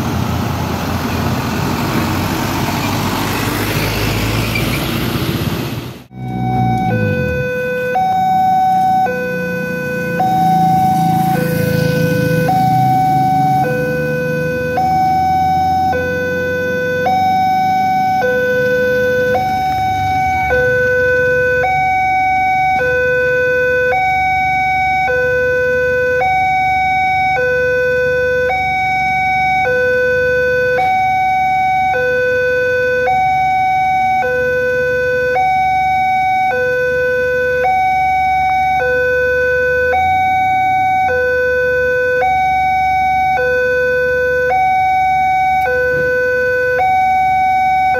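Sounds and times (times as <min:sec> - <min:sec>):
vehicle engines idling: 0:00.0 - 0:32.3, 0:38.2 - 0:47.9
two-tone level crossing alarm: 0:06.1 - 0:47.9.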